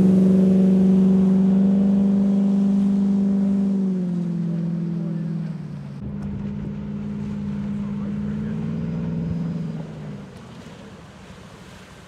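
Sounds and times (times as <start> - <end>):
water noise: 0.0 - 12.0
watercraft engine running: 0.0 - 12.0
wind: 0.0 - 12.0.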